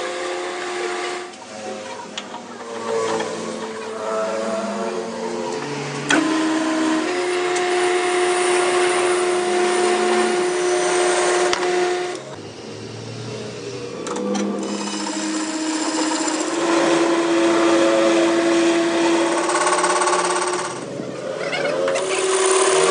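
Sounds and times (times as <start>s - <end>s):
metalworking machine humming: 0.0s - 22.9s.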